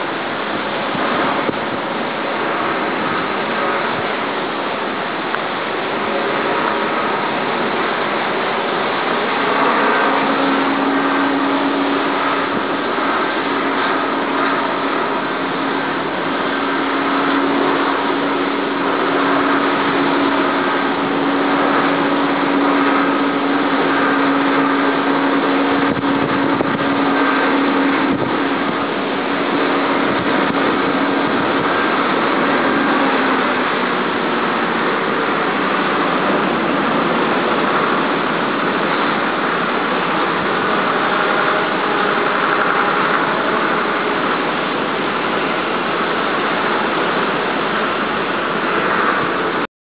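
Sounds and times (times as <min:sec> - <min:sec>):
steady low hum: 0:00.0 - 0:49.7
stormy sea surging: 0:00.0 - 0:49.7
wind noise: 0:00.0 - 0:49.7.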